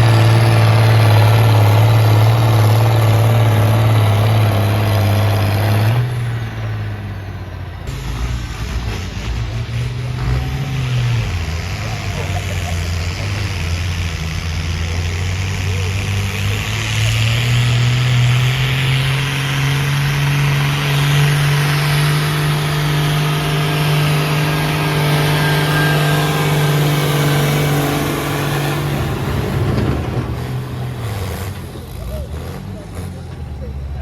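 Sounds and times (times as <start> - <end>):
tractor engine revving: 0.0 - 34.0.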